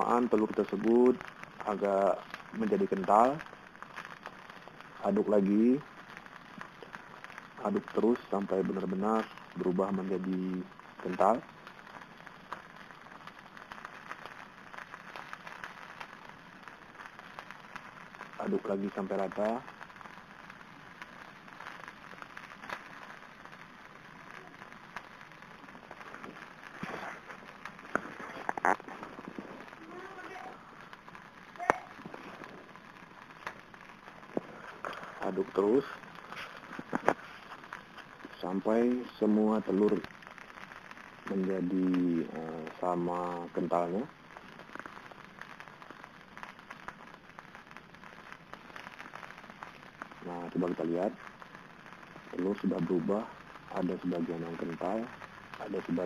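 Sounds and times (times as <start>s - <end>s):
egg sizzling in a wok: 0.0s - 38.5s, 39.5s - 55.6s.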